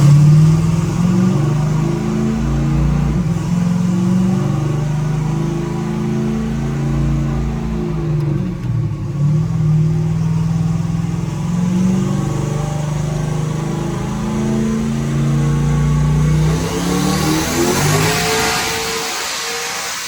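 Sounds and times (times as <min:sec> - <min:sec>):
vehicle engine running and revving: 0:00.0 - 0:20.0.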